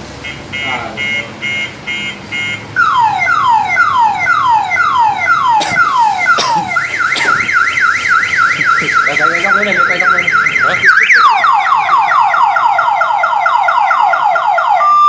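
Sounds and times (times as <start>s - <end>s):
electronic alarm siren: 0.2s - 15.0s.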